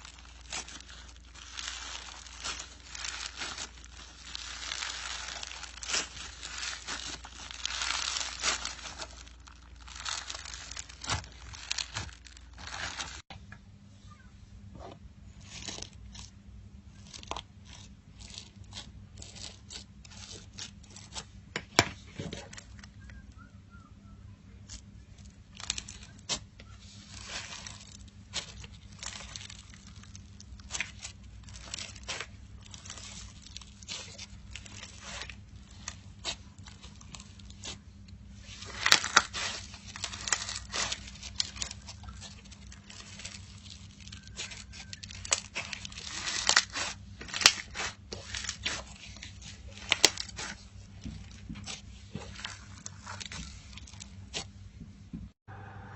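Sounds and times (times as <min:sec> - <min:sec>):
slime crackling by hand: 0:00.0 - 0:13.3, 0:15.3 - 0:23.2, 0:24.6 - 0:54.8
steady low hum: 0:00.0 - 0:55.9.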